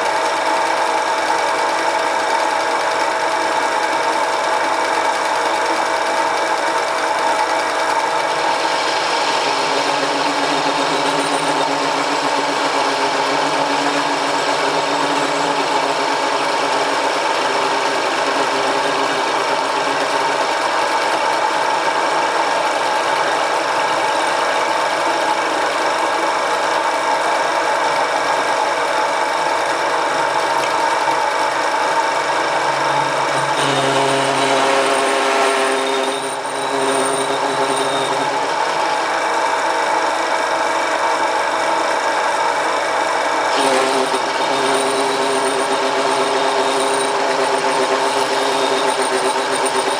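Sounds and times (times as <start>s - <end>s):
lathe motor whirring: 0.0s - 49.9s.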